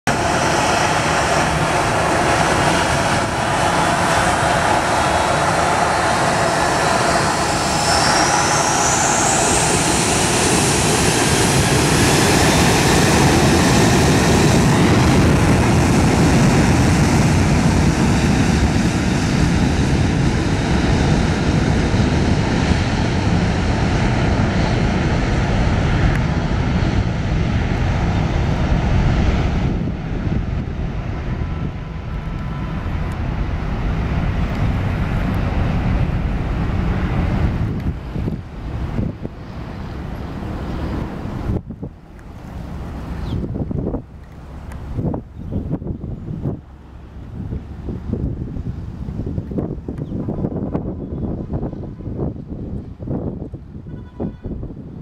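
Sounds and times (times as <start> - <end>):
jet engines spooling up: 0.1 - 50.1.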